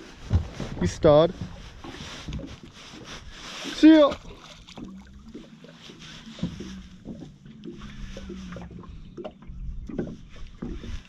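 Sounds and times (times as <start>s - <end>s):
water slapping boat hull: 0.0s - 11.0s.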